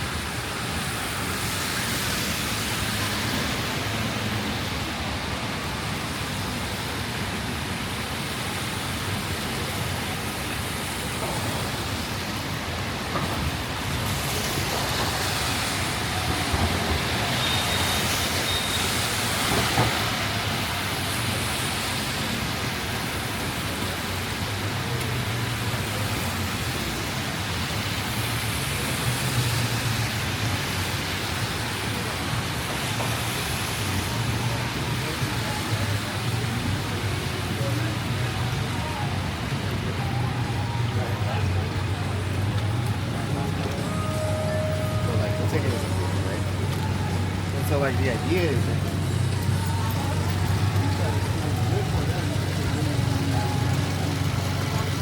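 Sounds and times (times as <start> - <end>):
cars passing on wet road: 0.0 - 55.0
rain on a city street: 0.0 - 55.0.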